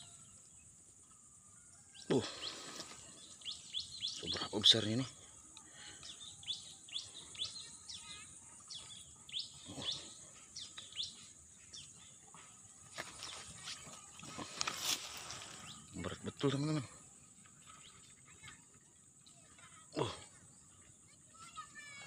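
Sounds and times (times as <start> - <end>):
bird chirping: 0.0 - 19.4.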